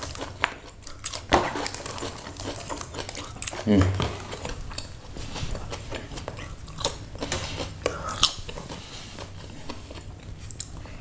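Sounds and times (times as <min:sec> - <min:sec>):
chewing noodles: 0:00.0 - 0:11.0.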